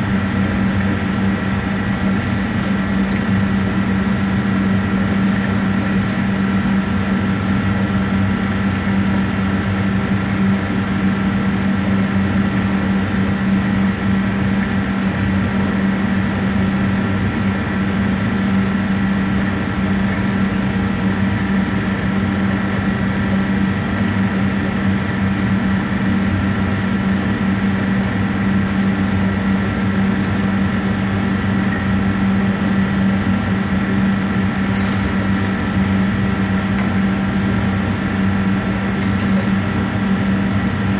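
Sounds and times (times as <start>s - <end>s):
mechanical hum with low drone: 0.0s - 40.9s.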